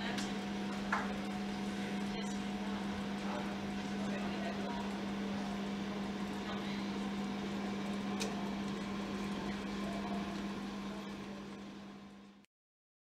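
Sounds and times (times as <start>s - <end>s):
room hum: 0.0s - 12.5s.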